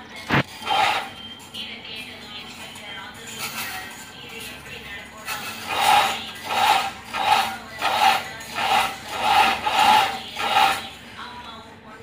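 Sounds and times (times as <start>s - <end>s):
wire-coiling machine scraping: 0.3s - 11.3s.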